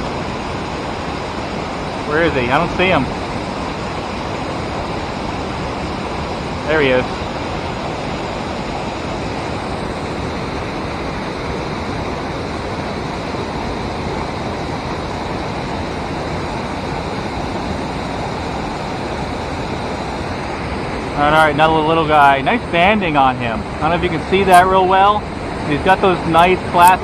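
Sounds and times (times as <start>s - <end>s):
water rushing in river: 0.0s - 27.0s.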